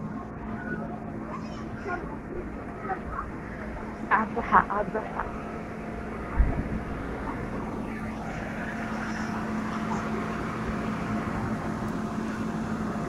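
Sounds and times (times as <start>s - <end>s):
faint voices: 0.0s - 13.0s
mechanical drone: 0.0s - 13.0s.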